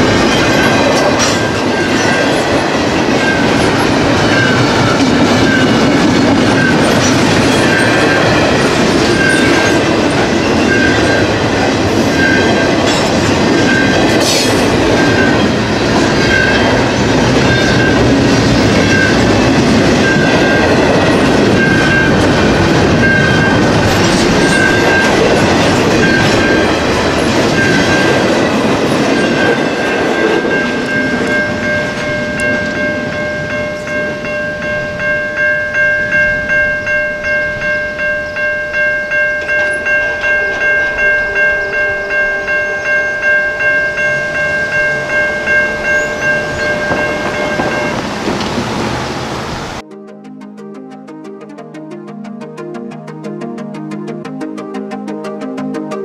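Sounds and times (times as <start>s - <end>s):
crossing warning bell: 0.0s - 49.8s
train wheels rumbling on rails: 0.0s - 49.8s.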